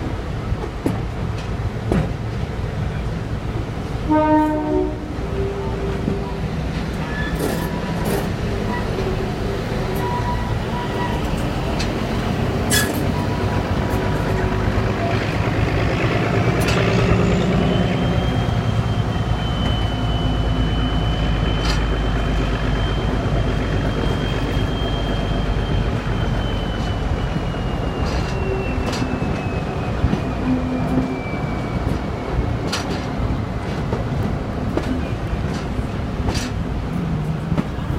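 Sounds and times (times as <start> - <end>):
train rumble: 0.0 - 37.9.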